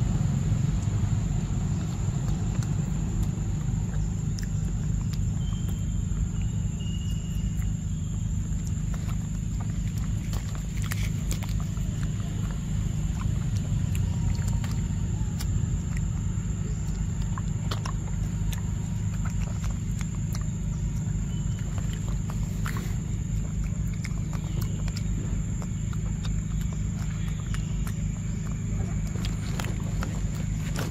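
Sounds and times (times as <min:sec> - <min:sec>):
faint high whine: 0:00.0 - 0:30.9
monkey chewing and smacking: 0:00.2 - 0:30.9.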